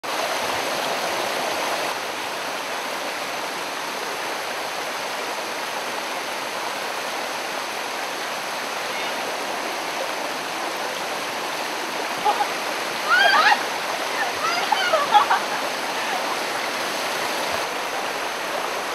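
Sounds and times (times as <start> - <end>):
stream rushing over boulders: 0.0 - 18.9.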